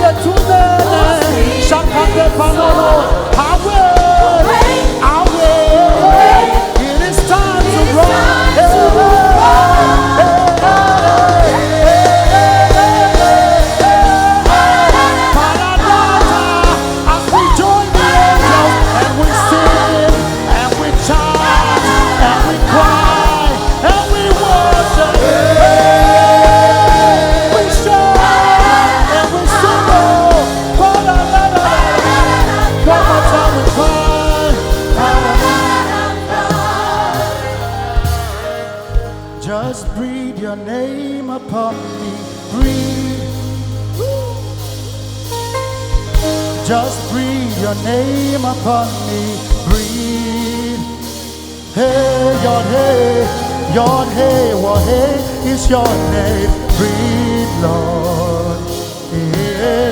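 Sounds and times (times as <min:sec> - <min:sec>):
band with bass and beat: 0:00.0 - 0:59.9
person singing gospel: 0:00.0 - 0:59.9.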